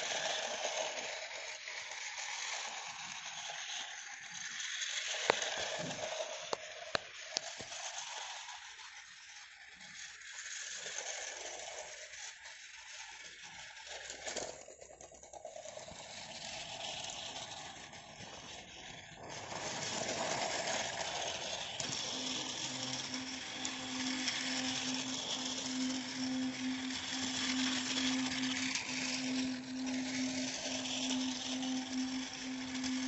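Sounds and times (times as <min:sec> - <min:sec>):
toy train motor whirring: 0:00.0 - 0:33.0
wheels rattling over plastic track: 0:00.0 - 0:33.0.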